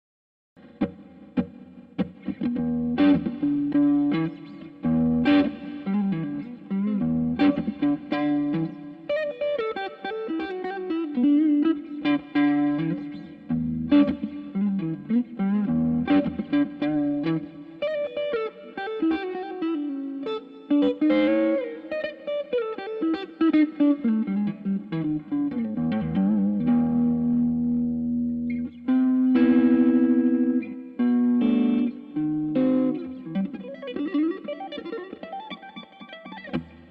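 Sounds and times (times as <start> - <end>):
electric guitar through amp: 0.6 - 36.9.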